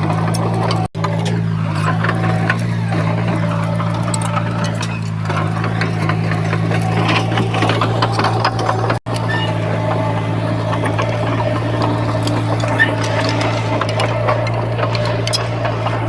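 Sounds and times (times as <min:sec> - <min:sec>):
diesel engine running: 0:00.0 - 0:16.0
clattering rattle: 0:00.1 - 0:16.0.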